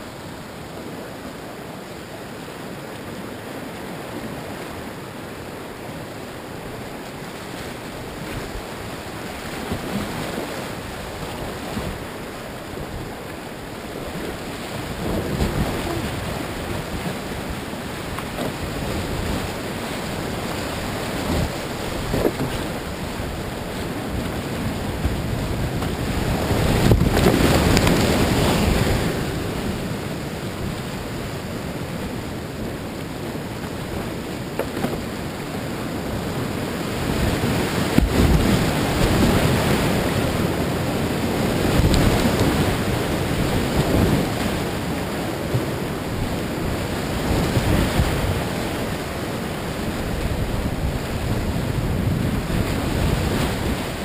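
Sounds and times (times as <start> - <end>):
water splashes: 0.0 - 54.0
whitewater rapids rushing: 0.0 - 54.0.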